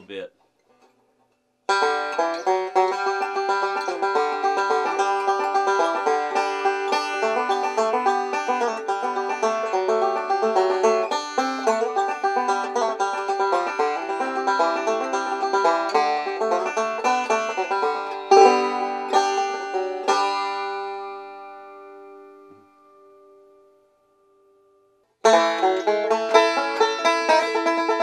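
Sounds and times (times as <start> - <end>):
banjo picked rapidly: 1.7 - 22.0, 25.2 - 28.0
banjo chords ringing: 1.7 - 23.6, 25.2 - 28.0.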